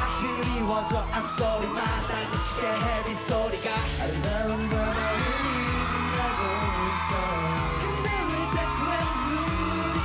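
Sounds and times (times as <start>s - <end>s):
dance-pop backing track: 0.0s - 10.0s
male voices singing: 0.0s - 10.0s.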